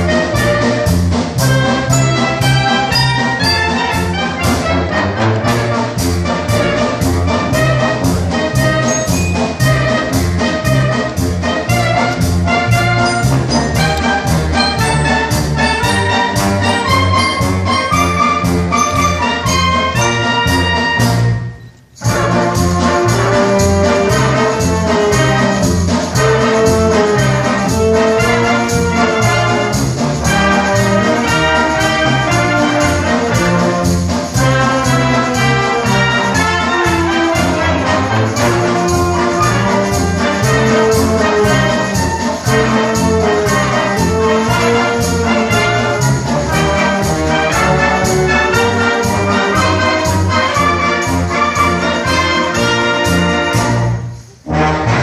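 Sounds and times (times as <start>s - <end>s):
wind band playing: 0.0s - 55.0s.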